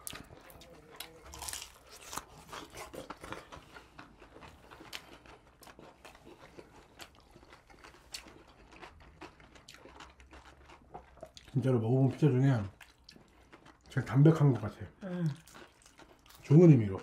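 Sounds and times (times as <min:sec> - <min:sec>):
people chewing pizza: 0:00.0 - 0:17.0.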